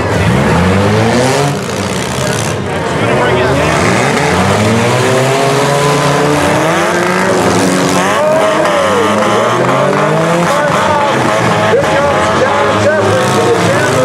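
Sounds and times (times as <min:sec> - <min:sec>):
car engines revving hard: 0:00.0 - 0:14.0.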